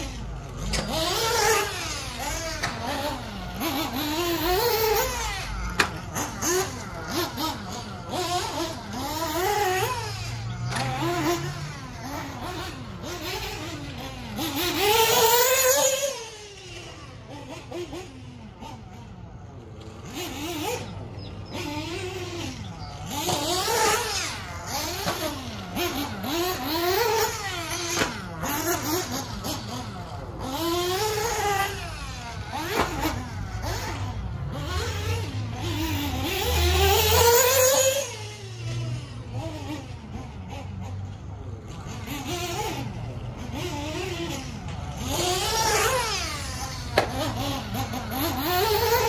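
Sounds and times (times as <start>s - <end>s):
model buggy engine revving: 0.0s - 49.0s.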